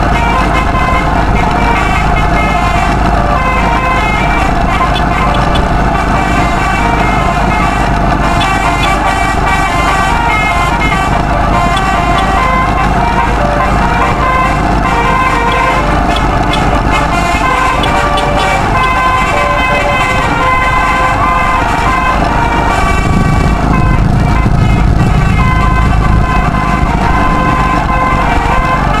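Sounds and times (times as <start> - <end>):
motorcycle rumbling: 0.0 - 29.0
musical air horn playing a tune: 0.0 - 29.0
wind noise: 0.0 - 29.0.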